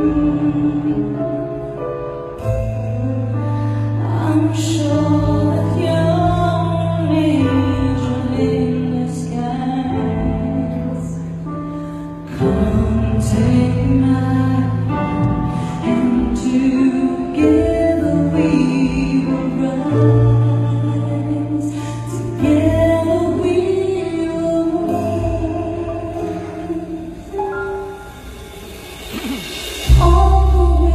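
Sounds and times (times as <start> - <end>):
woman singing: 0.0 - 1.8, 3.8 - 27.3, 29.2 - 30.9.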